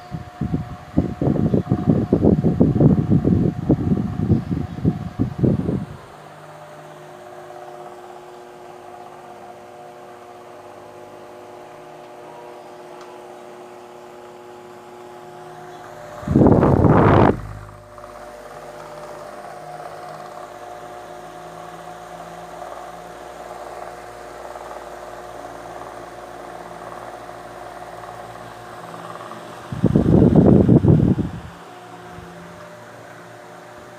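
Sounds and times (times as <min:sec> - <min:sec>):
rush of air from fan: 0:00.0 - 0:12.5, 0:13.1 - 0:33.9
fan motor humming: 0:00.0 - 0:33.9.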